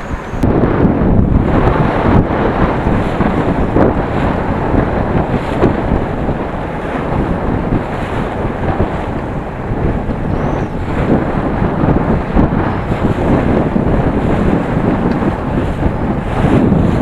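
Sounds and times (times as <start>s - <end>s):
water washing: 0.0s - 17.0s
wind buffeting microphone: 0.0s - 17.0s.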